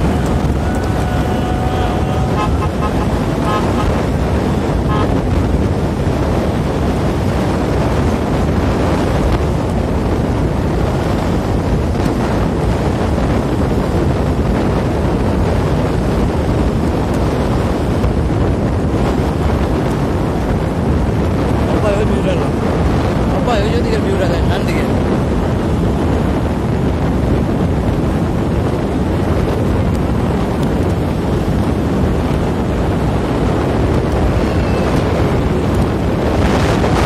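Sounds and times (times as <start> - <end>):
vehicle road noise: 0.0 - 37.0
wind buffeting microphone: 0.0 - 37.0.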